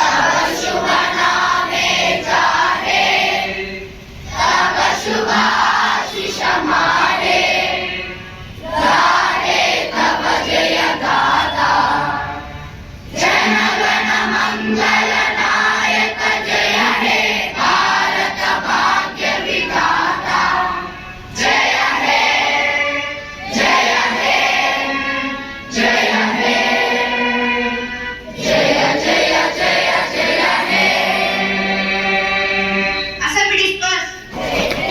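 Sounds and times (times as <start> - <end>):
students singing in chorus: 0.0 - 33.2, 34.3 - 34.9.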